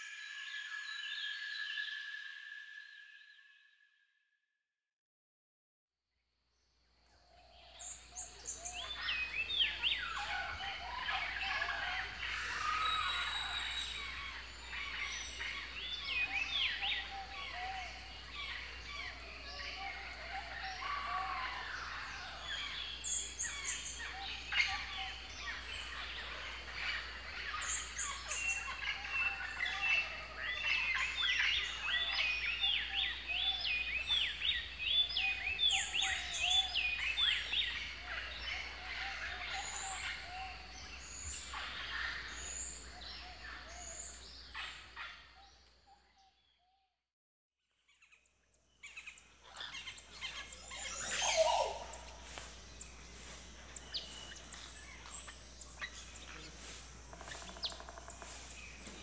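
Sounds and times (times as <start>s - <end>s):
forest birds calling and singing: 0.0s - 3.8s, 7.0s - 46.8s, 47.8s - 59.0s.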